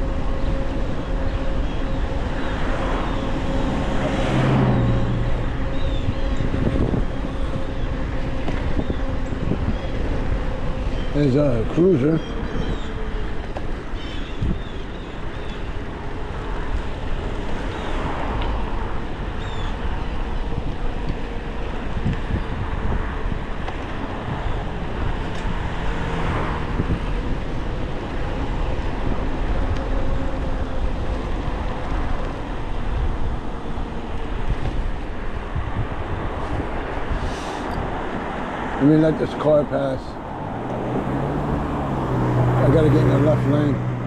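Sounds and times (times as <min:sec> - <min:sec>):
road and traffic noise: 0:00.0 - 0:44.0
vehicles passing: 0:00.0 - 0:44.0
wind rumbling on microphone: 0:00.0 - 0:44.0.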